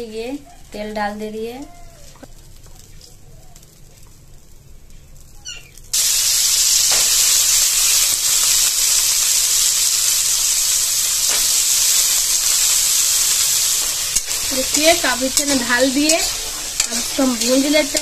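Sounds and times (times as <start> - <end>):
chickpeas sizzling in hot oil: 0.8 - 18.0.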